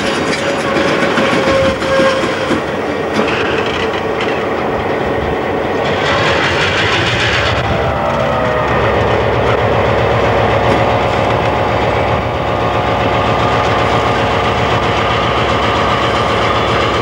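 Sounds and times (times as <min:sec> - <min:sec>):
diesel locomotive throbbing: 0:00.0 - 0:17.0
wheels rumbling on rails: 0:00.0 - 0:17.0.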